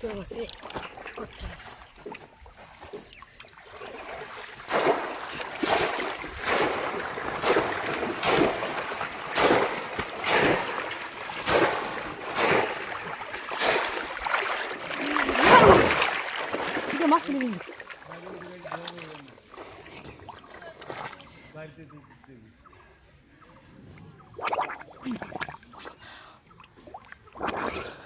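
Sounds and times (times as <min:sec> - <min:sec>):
splashing in shallow water: 0:00.0 - 0:23.6.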